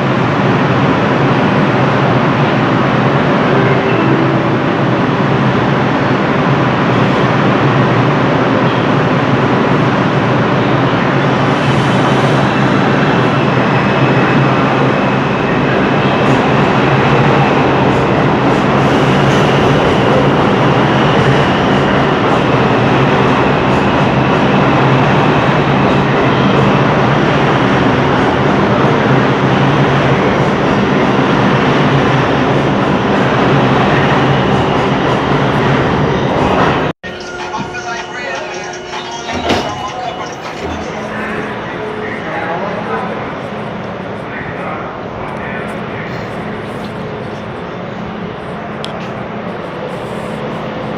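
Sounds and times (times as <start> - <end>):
train rumbling on rails: 0.0 - 50.9.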